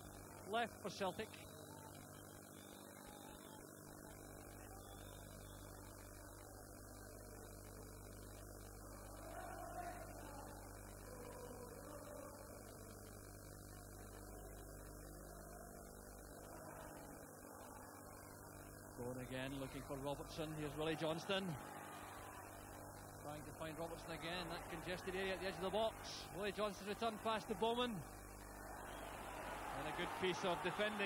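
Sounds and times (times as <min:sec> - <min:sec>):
electrical mains hum: 0:00.0 - 0:31.0
faint stadium crowd murmur: 0:00.5 - 0:31.0.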